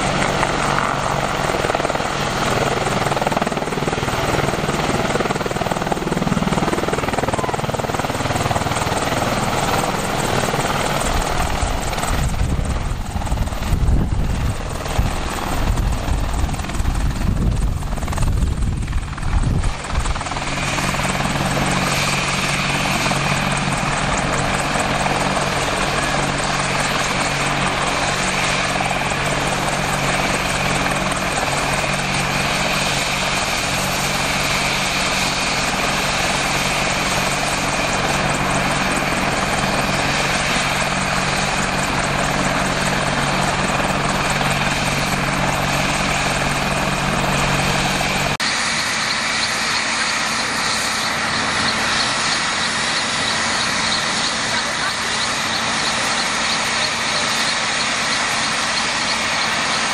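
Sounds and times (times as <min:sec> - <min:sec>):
helicopter rotors beating: 0:00.0 - 0:59.9
helicopter turbine whine: 0:00.0 - 0:59.9.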